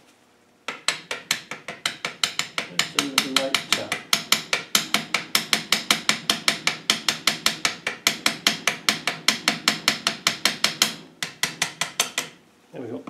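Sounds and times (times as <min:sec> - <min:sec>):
hammer tapping on metal: 0:00.7 - 0:12.4.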